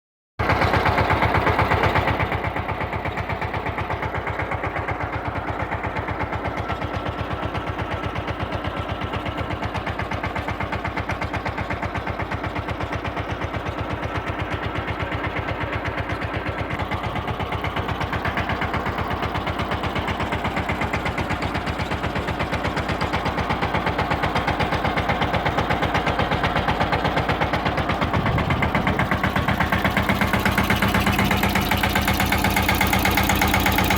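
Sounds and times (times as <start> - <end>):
diesel tractor engine running: 0.4 - 33.9.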